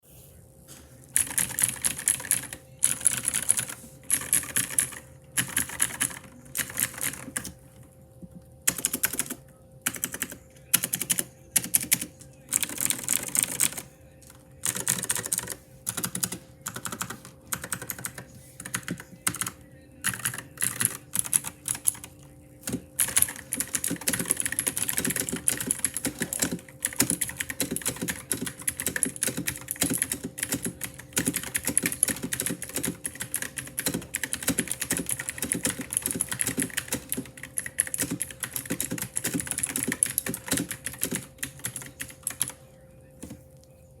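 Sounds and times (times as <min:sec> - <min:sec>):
keyboard typing: 0:01.2 - 0:07.6, 0:08.6 - 0:42.6.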